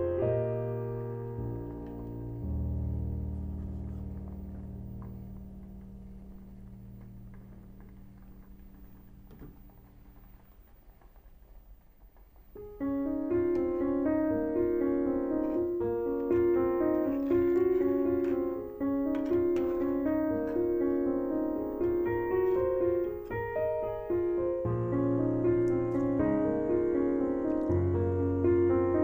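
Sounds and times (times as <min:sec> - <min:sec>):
background piano music: 0:00.0 - 0:29.0.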